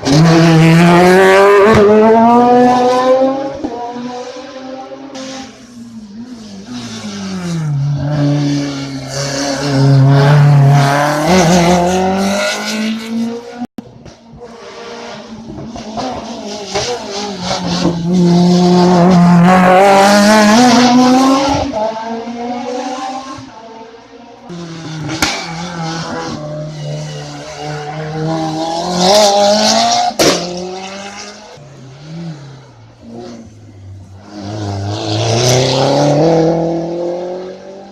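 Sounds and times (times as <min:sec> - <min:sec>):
race cars passing at full throttle: 0:00.0 - 0:37.9.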